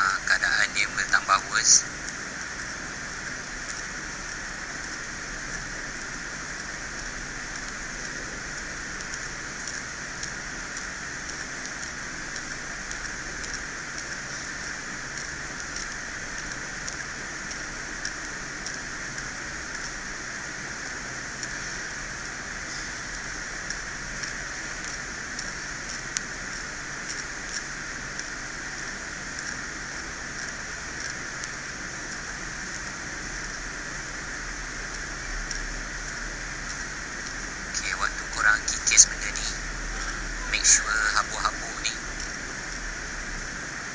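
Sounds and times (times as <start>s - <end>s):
steady hiss: 0.0s - 43.9s.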